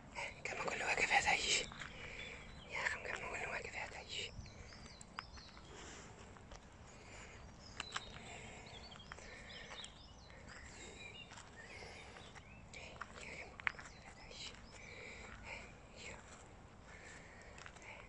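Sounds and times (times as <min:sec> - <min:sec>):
faint outdoor background noise: 0:00.0 - 0:18.0
small birds chirping: 0:00.0 - 0:18.0.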